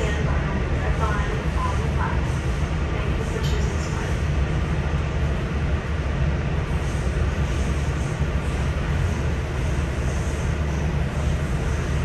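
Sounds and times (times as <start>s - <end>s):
railcar engine and wheels droning: 0.0s - 12.0s.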